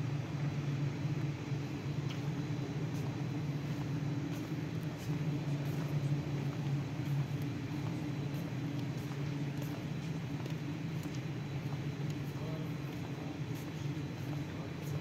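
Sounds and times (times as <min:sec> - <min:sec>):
low hum of station concourse: 0:00.0 - 0:15.0.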